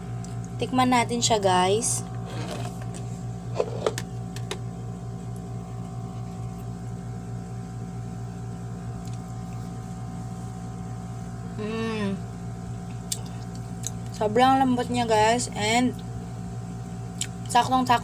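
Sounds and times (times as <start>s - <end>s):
low machine hum with pulse: 0.0s - 18.0s.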